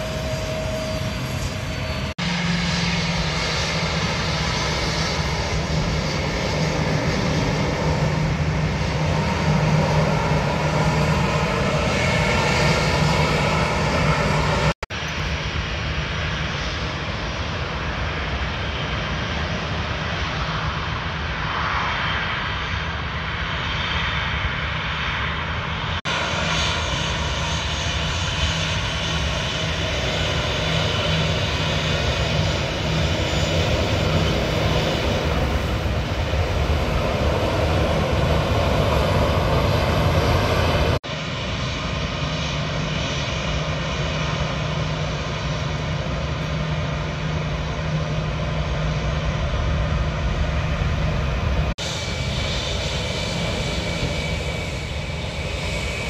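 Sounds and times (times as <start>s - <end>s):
airliner engine noise: 0.0s - 56.0s.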